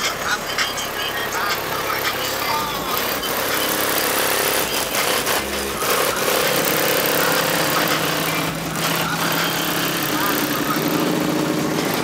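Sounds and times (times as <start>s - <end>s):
car engine running: 0.0s - 12.0s
street noise: 0.0s - 12.0s.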